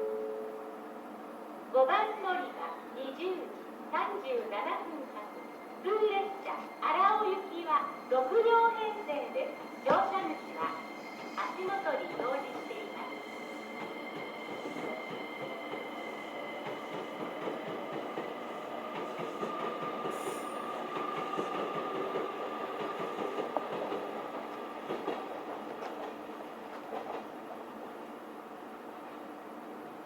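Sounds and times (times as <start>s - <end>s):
electric train whine and rumble: 0.0s - 30.0s.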